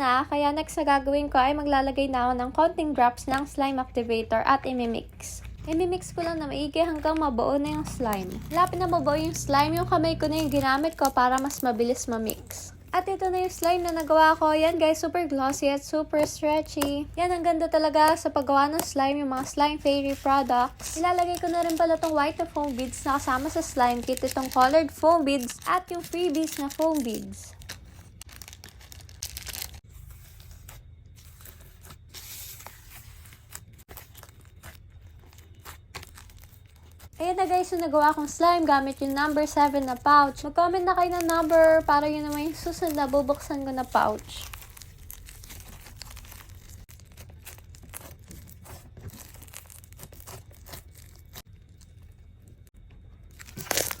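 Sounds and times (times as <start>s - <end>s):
crinkling handling noise: 4.7s - 54.0s
foam beads crackling in slime: 6.5s - 30.7s, 31.3s - 51.9s, 53.3s - 54.0s.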